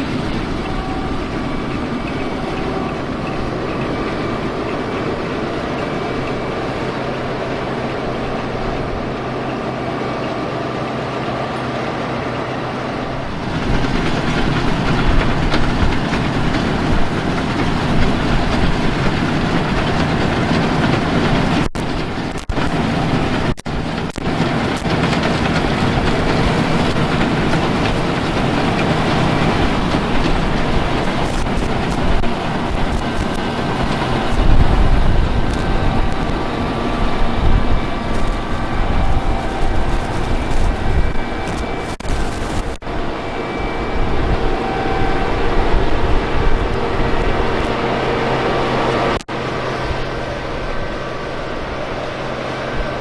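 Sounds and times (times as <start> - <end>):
harvest machinery rumble and rattle: 0.0 - 53.0.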